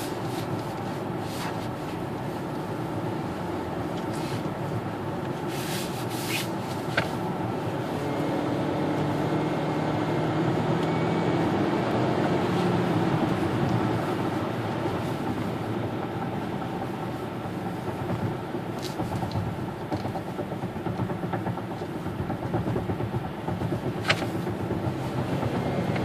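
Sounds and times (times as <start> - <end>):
car engine accelerating: 0.0 - 26.0
road and tyre noise: 0.0 - 26.0.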